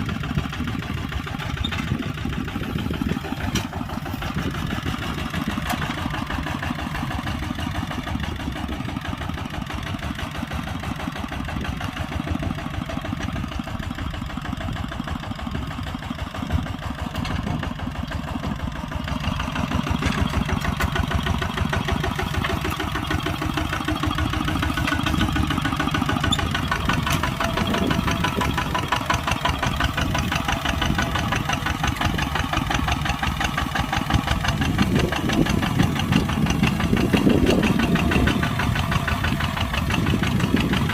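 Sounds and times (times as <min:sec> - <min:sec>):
diesel engine clattering: 0:00.0 - 0:40.9.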